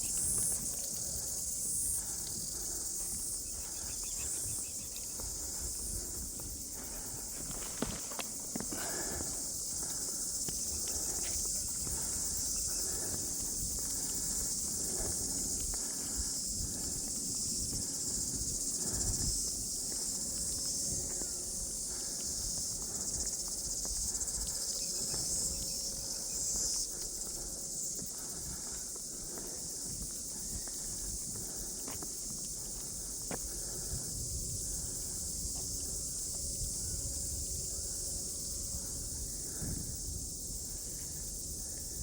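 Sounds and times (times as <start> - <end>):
footsteps on a path: 0.0 - 37.2
insects chirring: 0.0 - 42.0.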